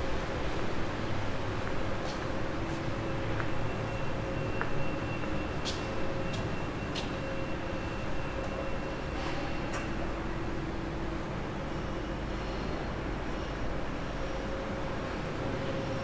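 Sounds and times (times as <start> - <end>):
street traffic hum and hiss: 0.0 - 16.0.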